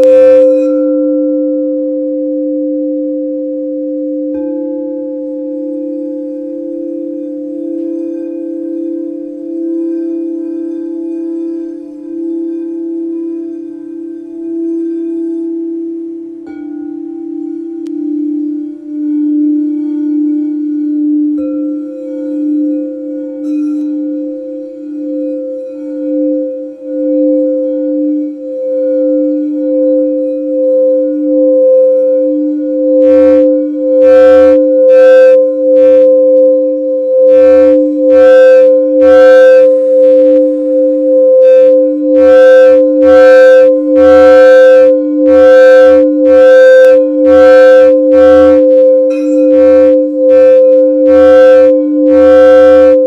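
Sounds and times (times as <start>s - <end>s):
singing bowls ringing: 0.0s - 53.0s.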